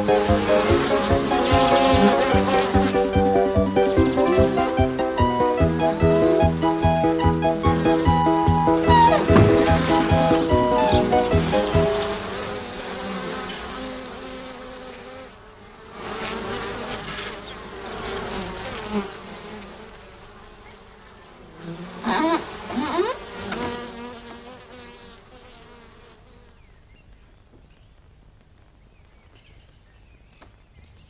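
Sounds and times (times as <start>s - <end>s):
bees buzzing: 0.0s - 26.7s.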